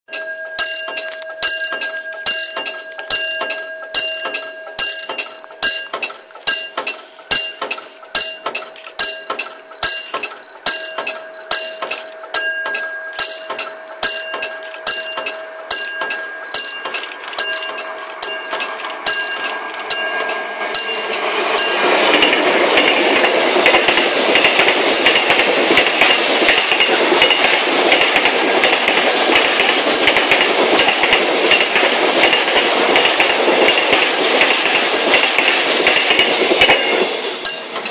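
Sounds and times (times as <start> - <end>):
level-crossing bell ringing: 0.1 - 37.9
freight train rumbling past: 0.7 - 37.9.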